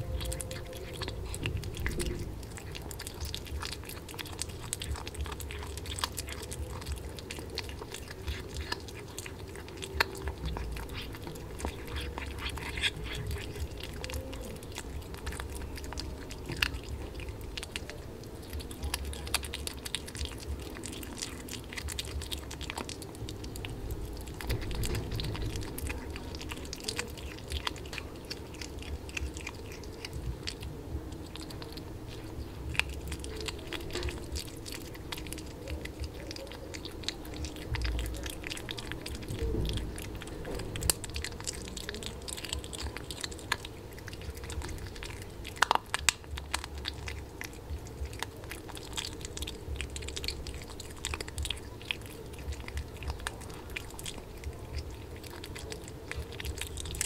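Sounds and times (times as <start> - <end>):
kitten chewing fish: 0.0 - 57.0.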